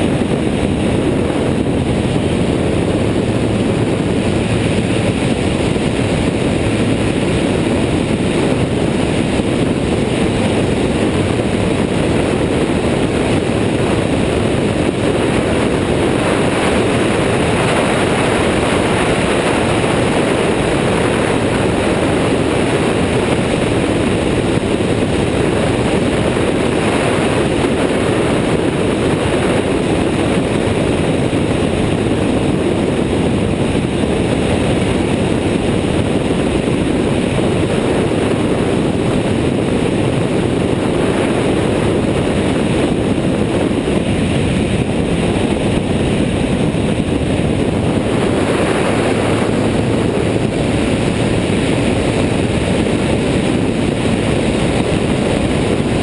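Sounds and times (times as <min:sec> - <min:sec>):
aircraft engine and propeller: 0:00.0 - 0:56.0
wind rushing over microphone: 0:00.0 - 0:56.0.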